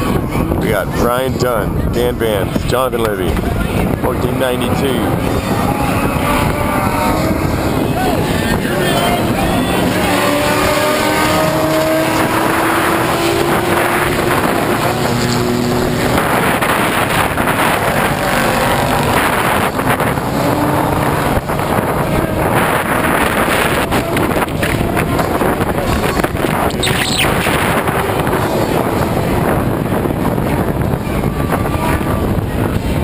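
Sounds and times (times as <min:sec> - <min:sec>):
race truck engines revving: 0:00.0 - 0:33.0.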